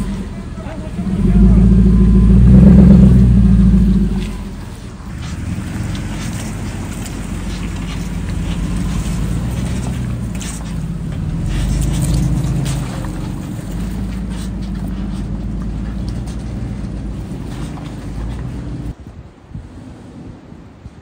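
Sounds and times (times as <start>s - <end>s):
off-road vehicle engine: 0.0s - 19.0s.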